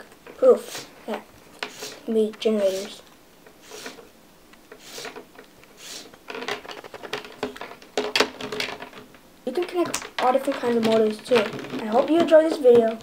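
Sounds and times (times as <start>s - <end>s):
hands rubbing plastic cables: 0.0s - 13.0s.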